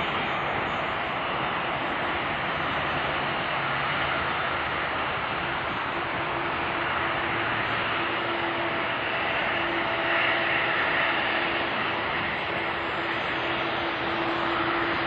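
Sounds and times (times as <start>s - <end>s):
jet engines taxiing: 0.0s - 15.0s.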